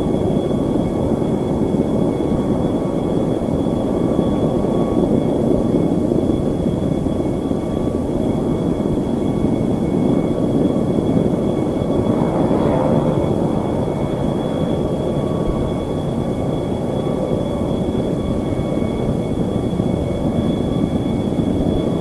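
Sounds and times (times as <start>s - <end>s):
aircraft engines rumbling: 0.0s - 22.0s
high engine whines: 0.0s - 22.0s.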